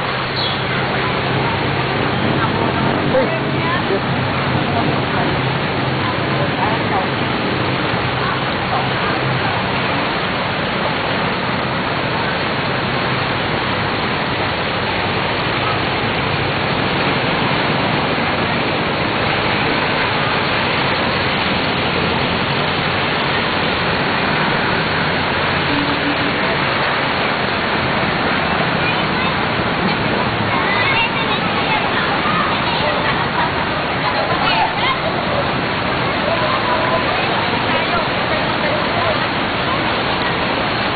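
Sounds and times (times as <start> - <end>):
floodwater rushing and splashing: 0.0 - 40.9
rain falling: 0.0 - 40.9.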